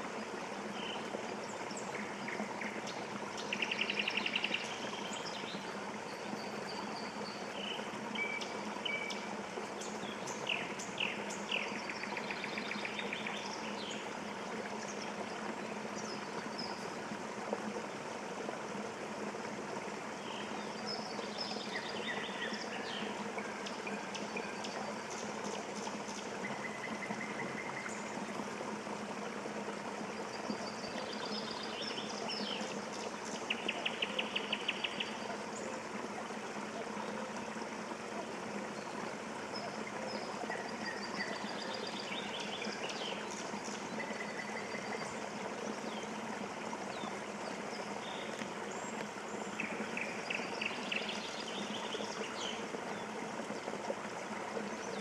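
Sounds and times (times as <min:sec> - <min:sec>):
flowing water rushing: 0:00.0 - 0:55.0
songbirds calling: 0:00.0 - 0:55.0.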